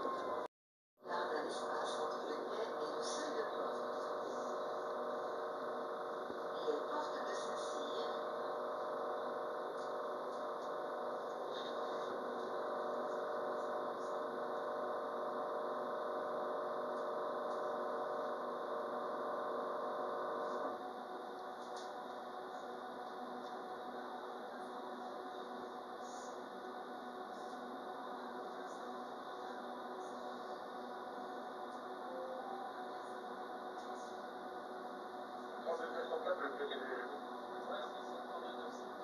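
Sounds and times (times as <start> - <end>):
tram motor whine: 1.1 - 39.0.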